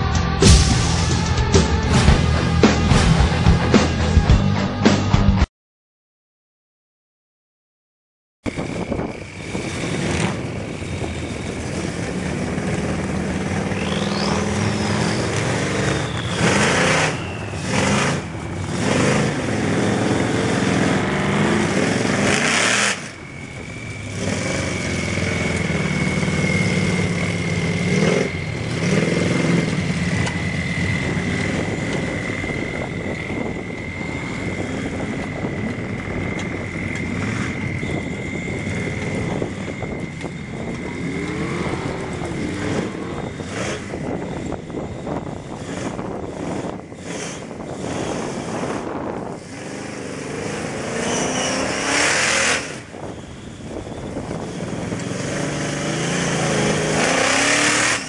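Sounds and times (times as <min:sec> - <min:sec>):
pickup truck engine revving: 0:00.0 - 0:04.2, 0:08.5 - 0:58.0
steady high whine: 0:08.5 - 0:58.0.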